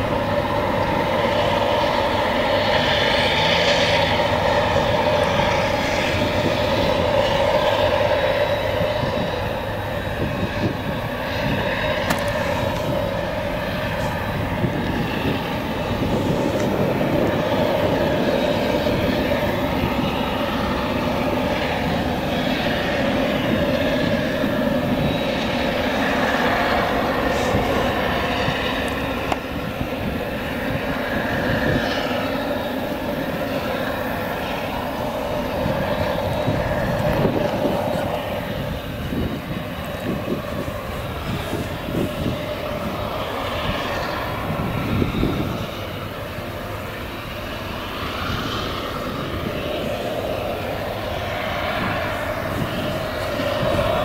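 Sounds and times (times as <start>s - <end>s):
forage harvester machine drone: 0.0s - 54.0s.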